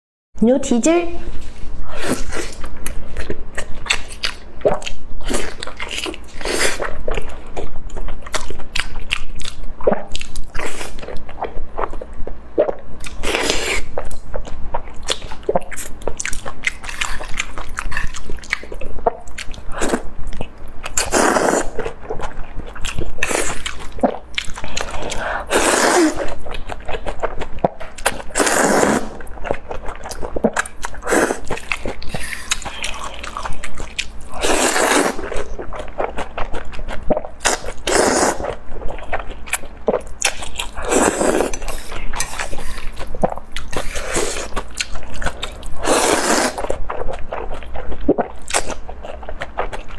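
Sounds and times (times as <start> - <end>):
wet chewing and mouth clicks: 1.9 - 49.9.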